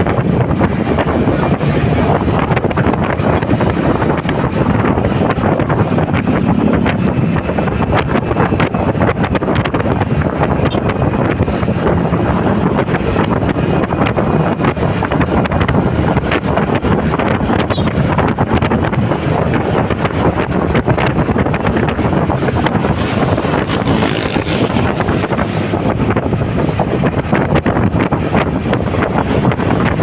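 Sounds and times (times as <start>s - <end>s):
motorcycle engine running: 0.0s - 30.0s
road noise: 0.0s - 30.0s
wind buffeting microphone: 0.0s - 30.0s.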